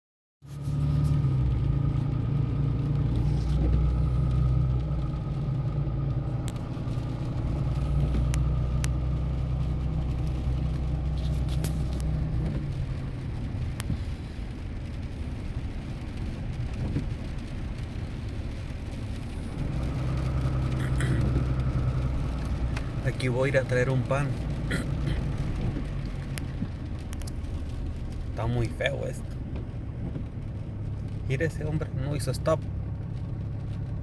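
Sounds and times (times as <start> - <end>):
car engine running: 0.4 - 34.0
road noise: 0.4 - 34.0.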